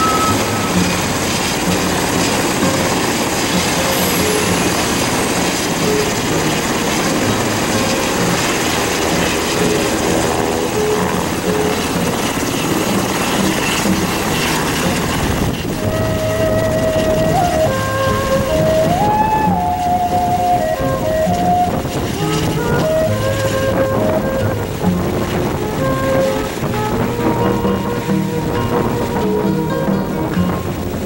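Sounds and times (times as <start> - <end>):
helicopter rotor and engine: 0.0 - 31.0
music: 0.0 - 31.0.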